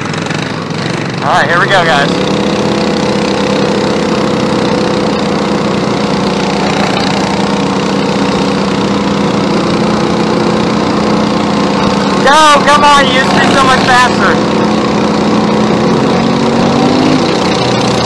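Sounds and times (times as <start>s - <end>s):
go-kart engine running wide open: 0.0s - 18.0s.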